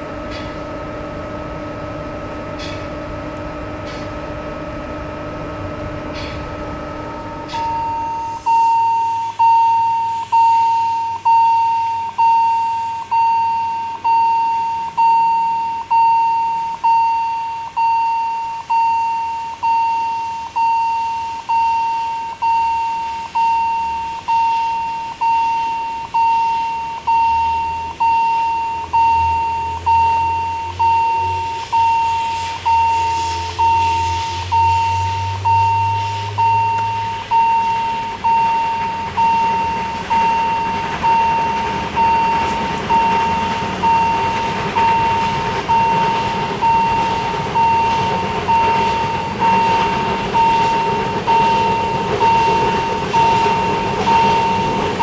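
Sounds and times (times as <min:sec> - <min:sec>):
steam locomotive rumble: 0:00.0 - 0:11.5, 0:14.0 - 0:55.0
level crossing bell ringing: 0:07.5 - 0:55.0.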